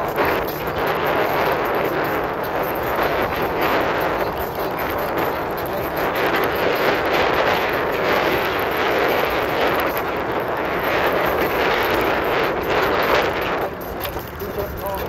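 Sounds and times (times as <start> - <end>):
road noise: 0.0 - 15.0
wind rush: 0.0 - 15.0.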